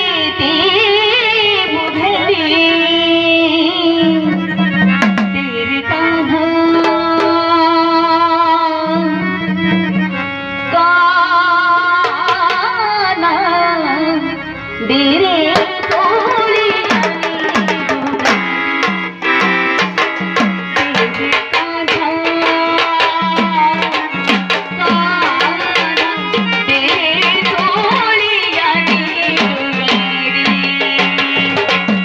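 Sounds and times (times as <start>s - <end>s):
tabla playing: 0.0s - 13.2s, 14.2s - 32.0s.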